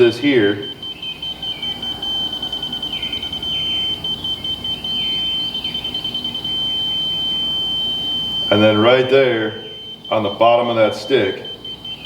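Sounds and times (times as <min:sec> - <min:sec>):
continuous high tone: 0:00.0 - 0:12.0
high rapid beeps: 0:00.0 - 0:12.0.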